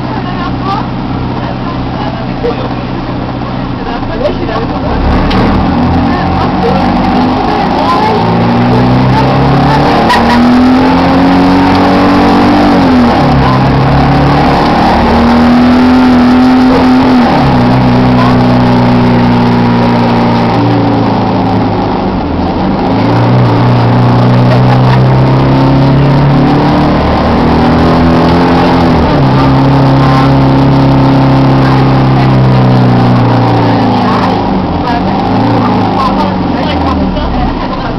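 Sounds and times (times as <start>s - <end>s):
bus engine hum: 0.0s - 37.9s.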